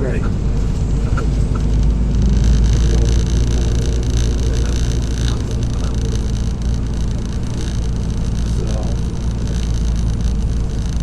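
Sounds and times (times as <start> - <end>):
road noise: 0.0 - 11.0
truck diesel engine running: 0.0 - 11.0.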